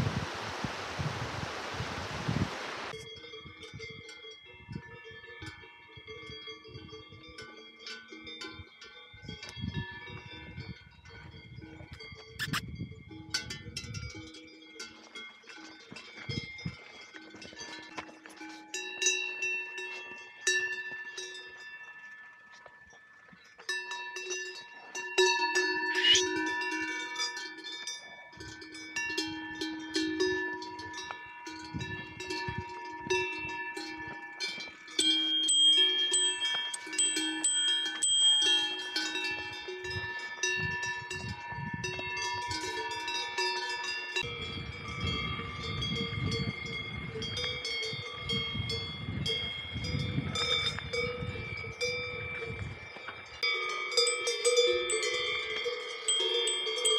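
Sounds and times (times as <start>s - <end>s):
cowbells clanging: 2.9s - 56.9s.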